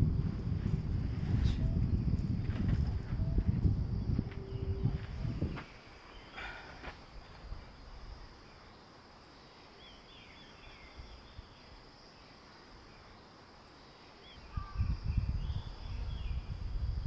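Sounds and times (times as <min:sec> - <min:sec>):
high-pitched insect drone: 0:01.6 - 0:17.0.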